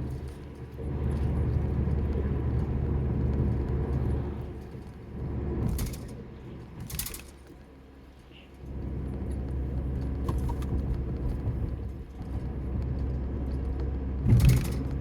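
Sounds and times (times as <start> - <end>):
car cabin road noise: 0.0 - 15.0.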